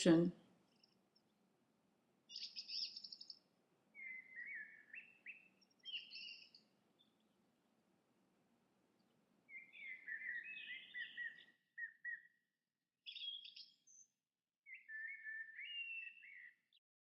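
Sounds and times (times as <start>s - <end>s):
bird song chirping: 0.0s - 1.5s, 2.2s - 7.4s, 8.9s - 16.8s.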